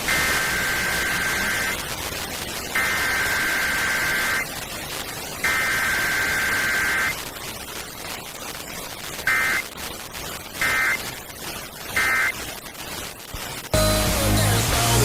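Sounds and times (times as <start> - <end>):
radio static: 0.0 - 13.9
digital data bursts: 0.0 - 15.0.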